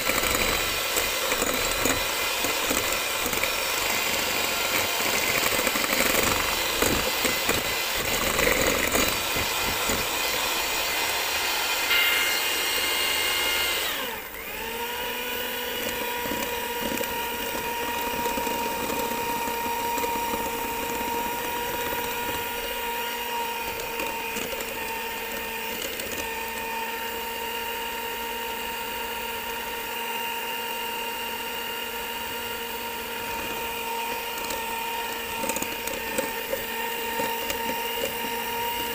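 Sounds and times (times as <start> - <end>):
electric hand mixer whining: 0.0 - 38.9.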